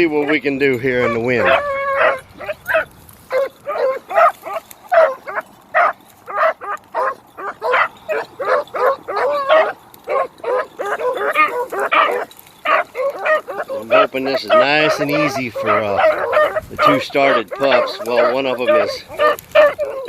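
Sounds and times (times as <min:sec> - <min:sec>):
dogs barking: 0:00.0 - 0:20.0.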